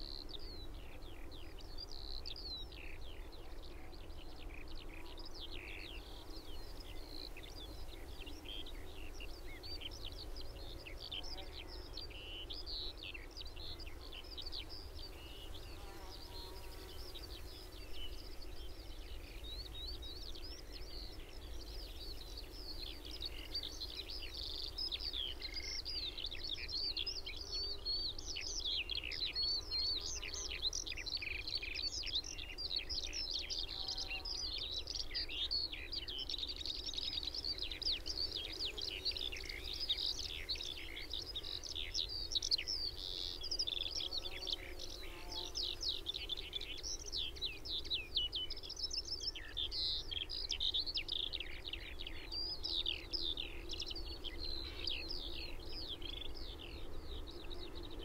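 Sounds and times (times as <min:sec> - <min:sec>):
skylarks singing: 0:00.0 - 0:58.0.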